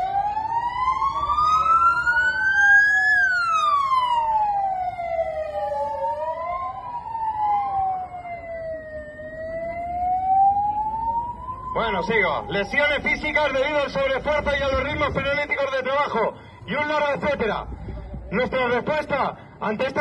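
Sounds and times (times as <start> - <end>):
emergency sirens wailing: 0.0 - 20.0.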